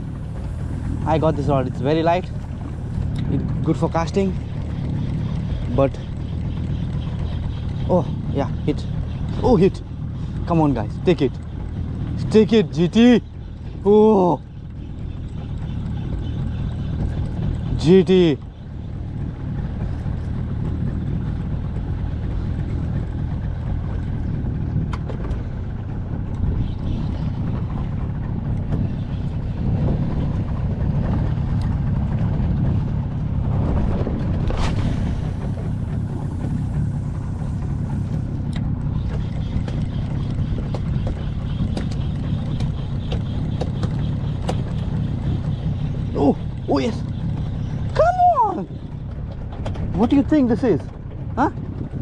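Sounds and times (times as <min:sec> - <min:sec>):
water slapping against boat: 0:00.0 - 0:52.0
wind rumble on microphone: 0:00.0 - 0:52.0.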